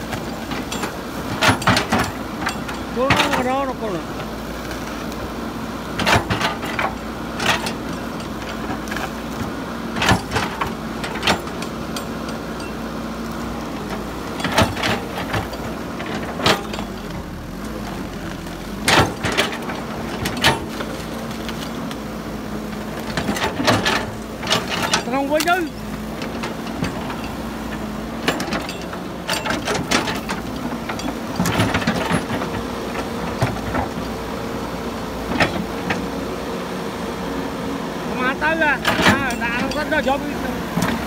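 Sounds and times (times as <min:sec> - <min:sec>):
excavator engine running: 0:00.0 - 0:41.0.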